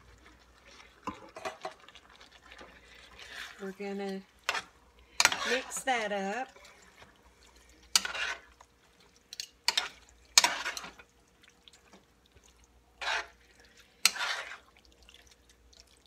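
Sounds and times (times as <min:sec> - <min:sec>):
metal spoon stirring thick mixture: 0:00.0 - 0:16.0.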